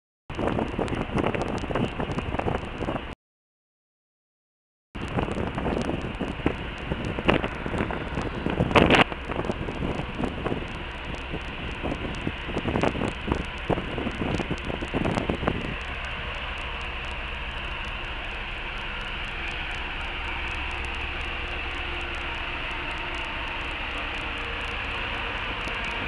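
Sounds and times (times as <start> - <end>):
ship engine drone: 0.3 - 3.2, 5.0 - 26.0
wind buffeting microphone: 0.3 - 3.2, 5.0 - 26.0.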